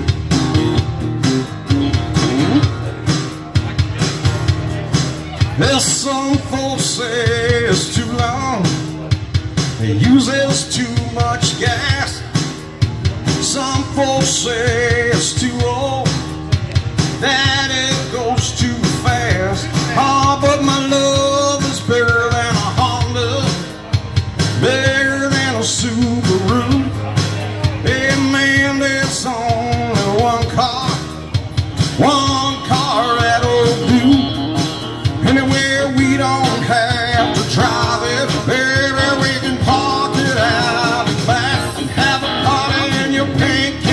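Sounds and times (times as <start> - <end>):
live rock and roll band: 0.0 - 43.9.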